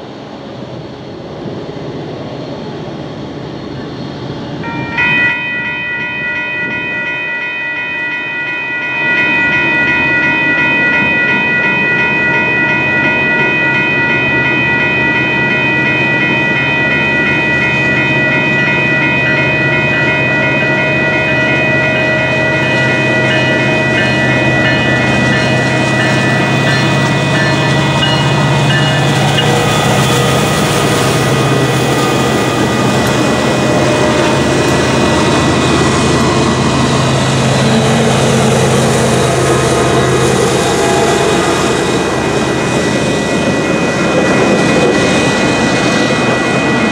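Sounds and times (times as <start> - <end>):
approaching freight train drone: 0.0 - 46.9
electronic railroad crossing bells ringing: 4.6 - 46.9.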